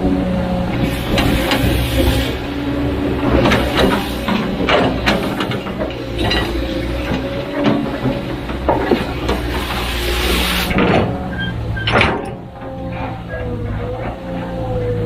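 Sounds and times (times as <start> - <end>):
heavy diesel machinery running: 0.0 - 15.0
metallic clanks and knocks: 0.8 - 15.0.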